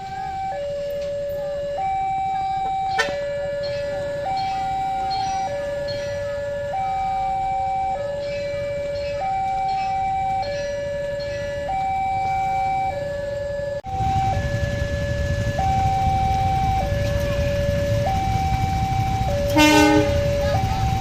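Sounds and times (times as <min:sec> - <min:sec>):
level crossing two-tone alarm: 0:00.0 - 0:21.0.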